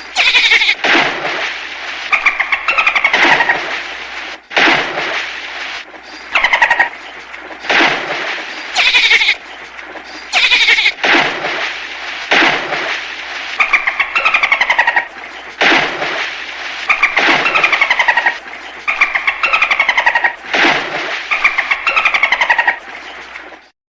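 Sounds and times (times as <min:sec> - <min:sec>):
dolphins calling: 0:00.0 - 0:23.4.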